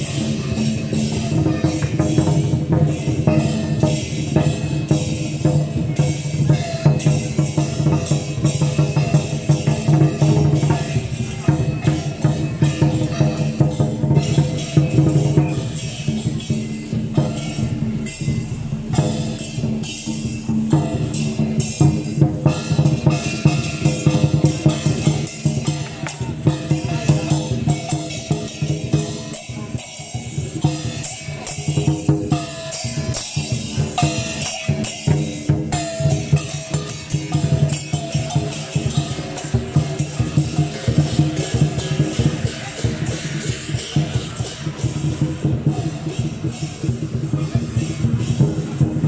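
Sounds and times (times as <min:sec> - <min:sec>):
drums and percussion music: 0:00.0 - 0:49.0
ringing strokes with bending pitch: 0:00.0 - 0:49.0.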